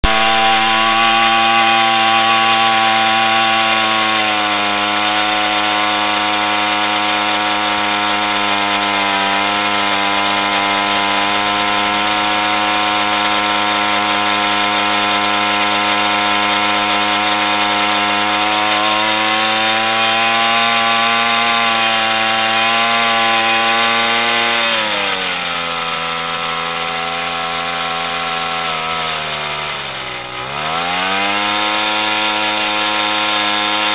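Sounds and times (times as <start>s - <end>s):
two-stroke moped engine running: 0.0s - 33.9s.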